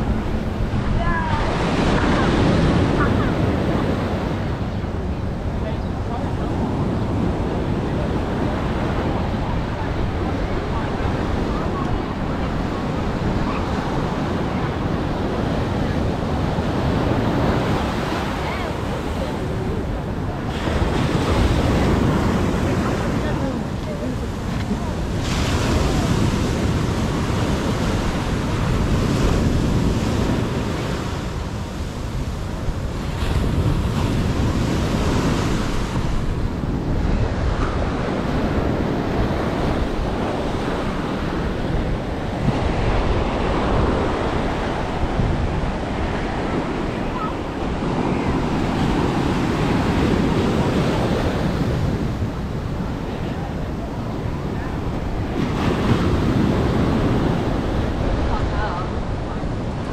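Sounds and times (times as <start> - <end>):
ocean surf breaking: 0.0 - 59.9
wind on microphone: 0.0 - 59.9.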